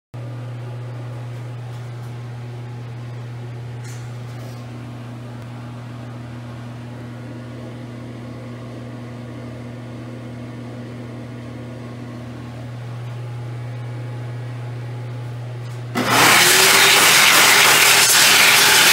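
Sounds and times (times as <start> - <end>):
low room hum: 0.2 - 16.0.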